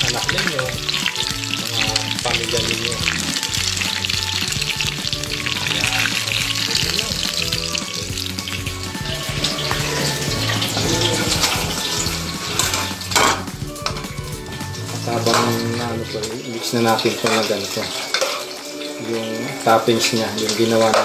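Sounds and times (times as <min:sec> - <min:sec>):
background music: 0:00.0 - 0:21.0
food sizzling in hot oil: 0:00.0 - 0:21.0.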